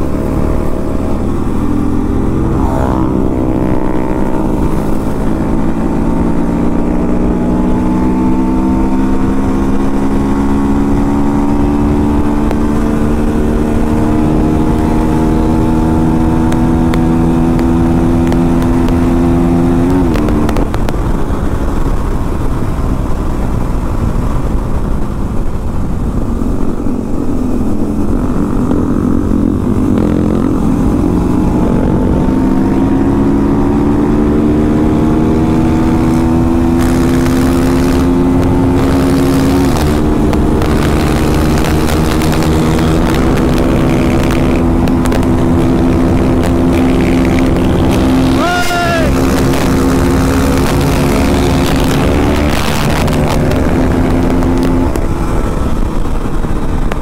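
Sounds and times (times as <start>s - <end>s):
motorcycle engine under hard throttle: 0.0s - 57.0s
wind rushing: 0.0s - 57.0s.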